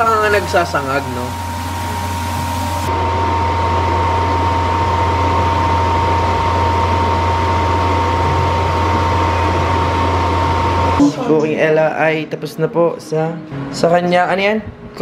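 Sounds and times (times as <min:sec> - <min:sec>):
fan hum with high whine: 0:00.0 - 0:12.4.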